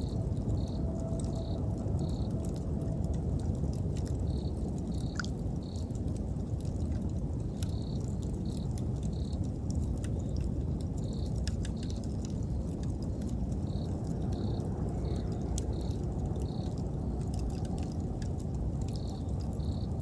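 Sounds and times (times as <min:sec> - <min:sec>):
insects chirping: 0:00.0 - 0:20.0
wood fire crackling: 0:00.0 - 0:20.0.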